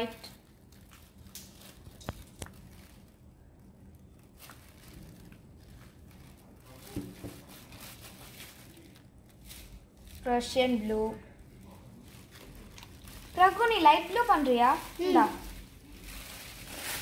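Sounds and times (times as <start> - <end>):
soft rustles: 0.3 - 17.0.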